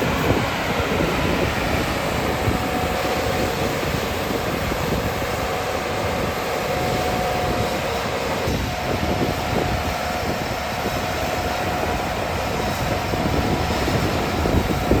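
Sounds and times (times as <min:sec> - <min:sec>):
excavator diesel engine running: 0:00.0 - 0:15.0
steady engine whine: 0:00.0 - 0:15.0.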